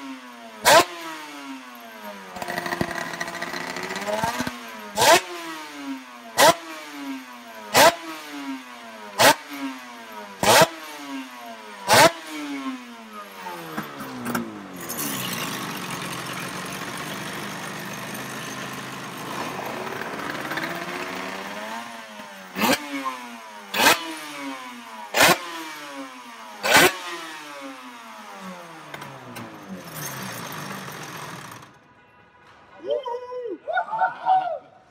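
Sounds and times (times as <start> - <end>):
racing engine revving: 0.0 - 17.0, 18.2 - 31.7.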